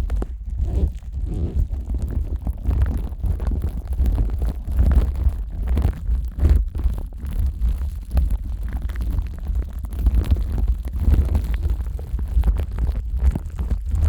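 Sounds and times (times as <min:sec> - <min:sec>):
microphone handling rumble: 0:00.0 - 0:14.0.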